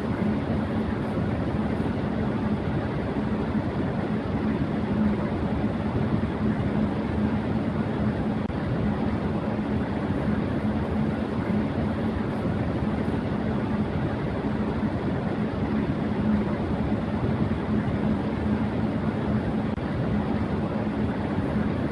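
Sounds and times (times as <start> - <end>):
electric fan running: 0.0 - 21.9.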